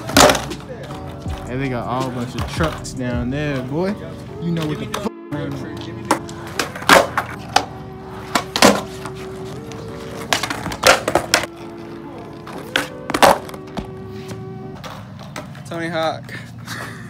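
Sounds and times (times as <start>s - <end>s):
skateboard decks clacking: 0.0s - 3.0s, 4.5s - 15.7s
background music: 0.0s - 17.0s
skateboard wheels rolling: 0.0s - 17.0s.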